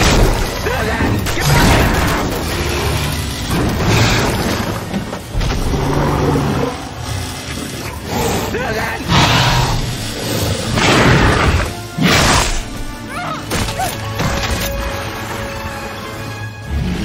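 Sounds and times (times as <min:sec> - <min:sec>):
dramatic film score: 0:00.0 - 0:17.0.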